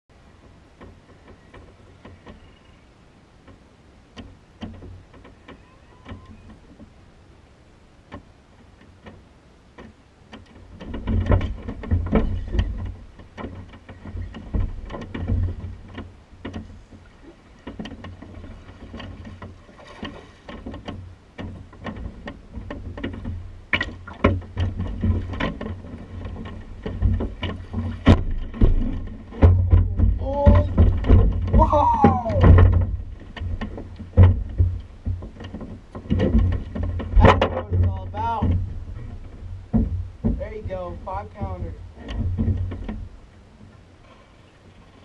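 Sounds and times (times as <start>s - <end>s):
knocks and thumps on boat hull: 3.4s - 6.9s, 8.1s - 43.7s.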